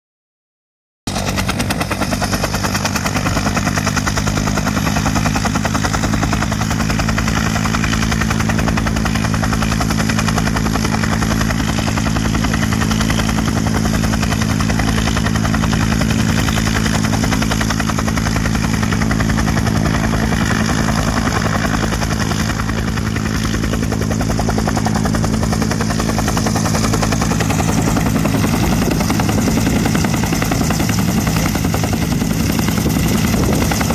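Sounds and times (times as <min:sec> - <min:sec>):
helicopter rotor chopping: 0:01.1 - 0:33.9
turbine hum: 0:01.1 - 0:33.9.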